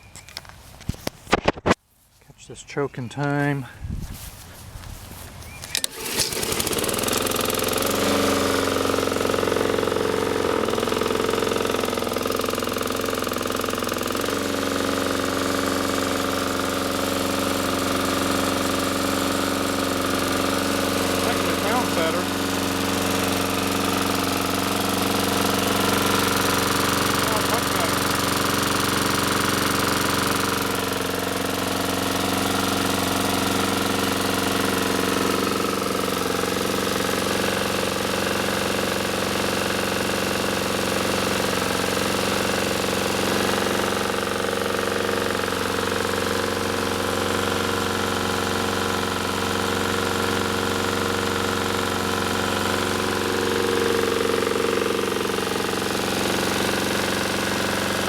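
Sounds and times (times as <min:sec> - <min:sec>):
lawn mower engine running: 0:05.1 - 0:58.0.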